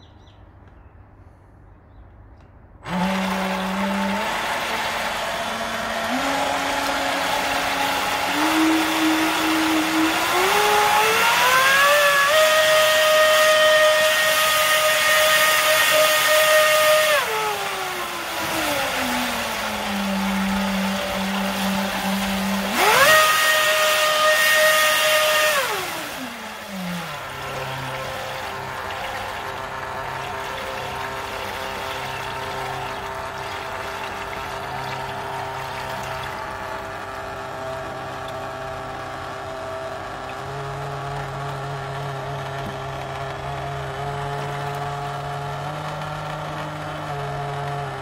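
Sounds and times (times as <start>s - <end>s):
electric motor whine: 2.8s - 48.0s.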